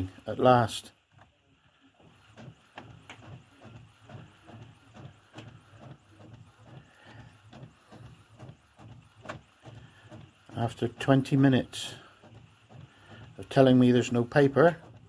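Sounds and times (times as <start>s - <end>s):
inkjet printer printing: 0.0s - 15.0s.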